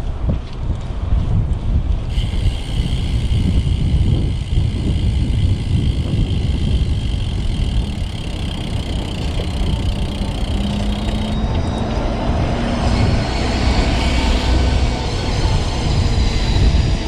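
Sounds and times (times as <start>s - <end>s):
bicycle road noise: 0.0s - 17.0s
wind rush: 0.0s - 17.0s.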